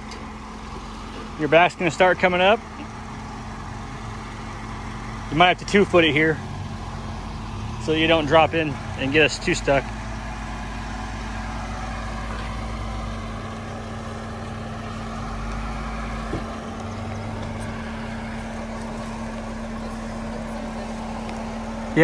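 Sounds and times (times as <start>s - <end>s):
car engine at low revs: 0.0s - 22.0s.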